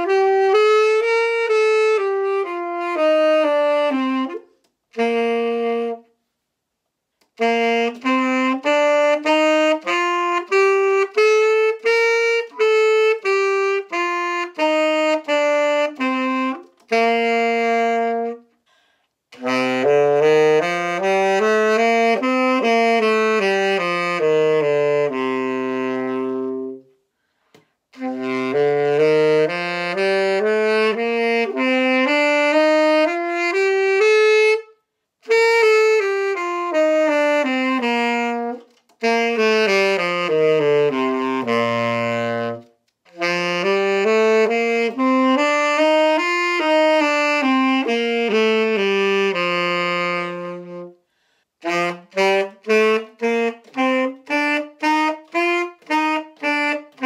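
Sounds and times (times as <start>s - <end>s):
saxophone playing scales: 0.0s - 57.0s.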